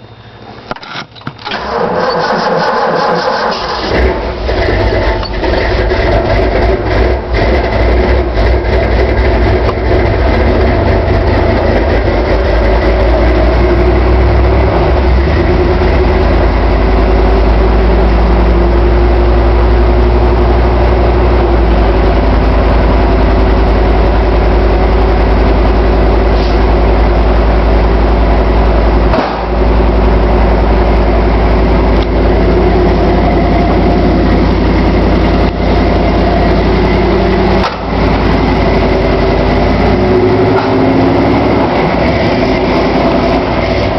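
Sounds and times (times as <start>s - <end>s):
car engine idling: 1.7s - 43.9s.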